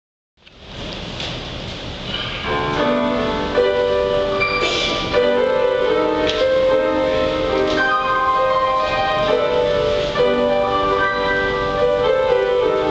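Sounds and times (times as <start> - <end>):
grand piano: 0.6 - 12.9.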